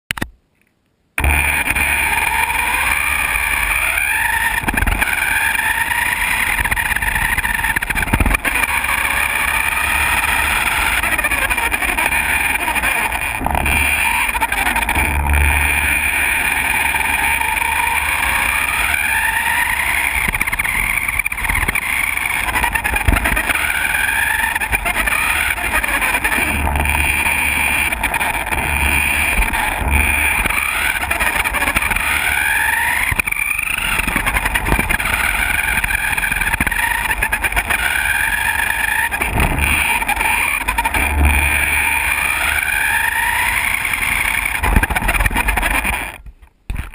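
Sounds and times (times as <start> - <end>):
toy car electric motor whining: 1.2 - 46.9.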